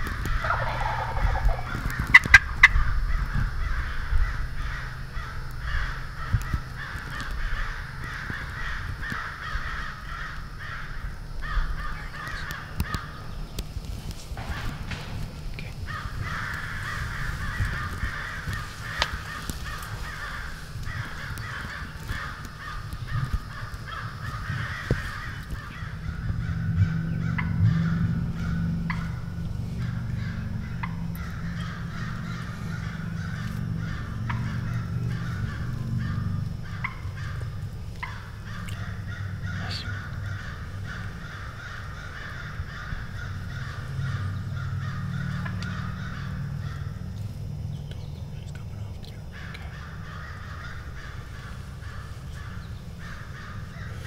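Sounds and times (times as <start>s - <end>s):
crows cawing: 0.0s - 54.0s
low droning hum: 0.0s - 54.0s.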